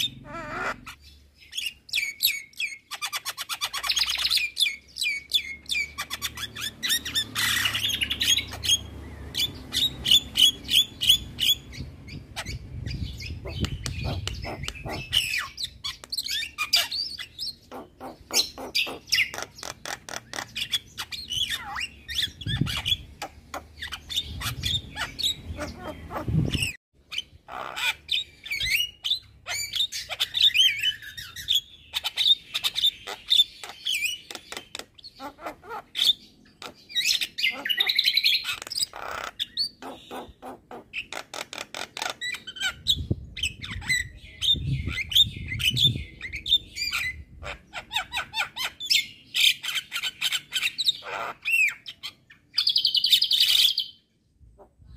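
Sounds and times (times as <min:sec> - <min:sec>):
bird singing with chattering clicks: 0:00.0 - 0:47.1, 0:47.8 - 0:54.0.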